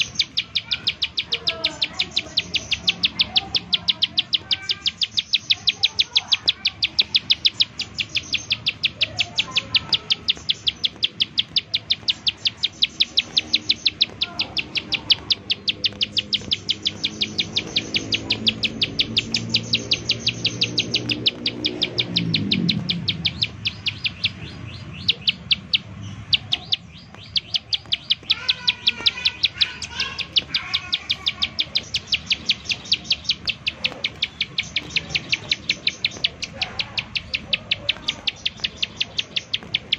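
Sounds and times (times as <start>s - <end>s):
bird rapid ticking call: 0.0s - 39.9s
other bird notes: 0.0s - 39.9s.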